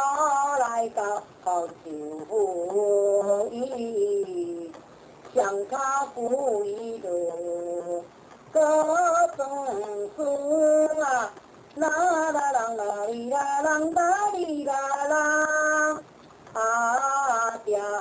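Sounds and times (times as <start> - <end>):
woman singing opera style: 0.0 - 18.0.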